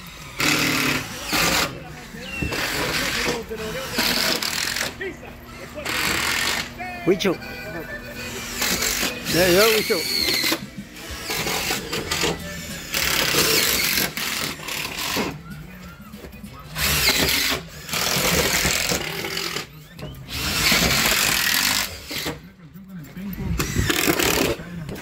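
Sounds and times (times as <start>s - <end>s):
handheld power tool running: 0.0s - 6.8s, 8.2s - 15.4s, 16.8s - 22.4s, 23.6s - 24.6s.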